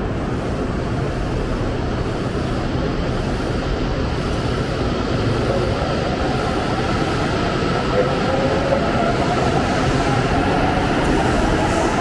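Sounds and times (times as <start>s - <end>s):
faint train whine: 0.0s - 12.0s
train low rumble: 0.0s - 12.0s.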